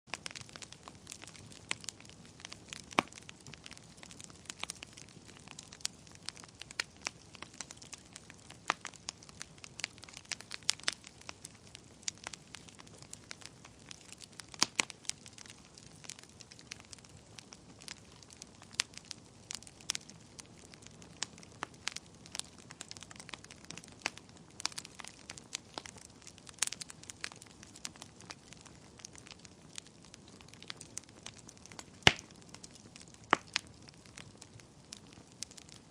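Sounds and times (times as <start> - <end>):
fire crackling and popping: 0.1 - 35.9
soft hiss of fire: 0.1 - 35.9.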